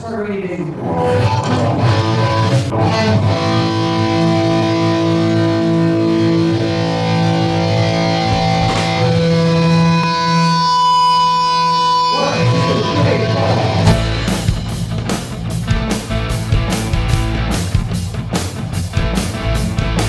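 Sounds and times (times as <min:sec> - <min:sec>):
distorted electric guitar chords: 0:00.7 - 0:20.0.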